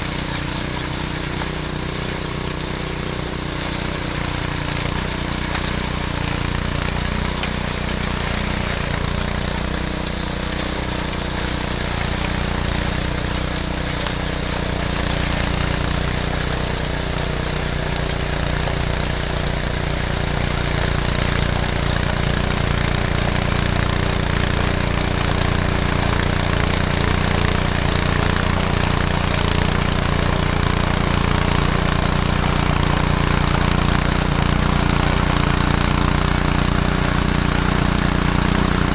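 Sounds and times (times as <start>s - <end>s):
snowblower engine running: 0.0s - 38.9s.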